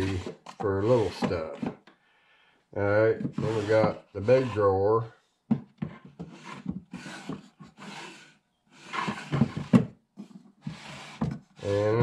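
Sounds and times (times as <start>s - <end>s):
wooden drawers scraping: 0.0s - 1.8s, 2.8s - 4.8s, 5.8s - 12.0s.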